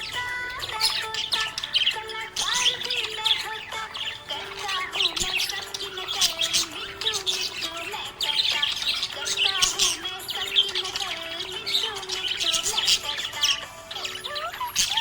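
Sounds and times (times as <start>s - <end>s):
budgerigars chirping: 0.0s - 15.0s
slow melodic background music: 0.0s - 15.0s.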